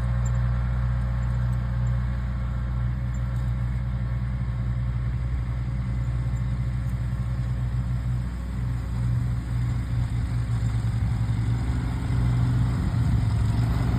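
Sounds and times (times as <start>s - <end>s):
farm machine engine running: 0.0s - 13.9s.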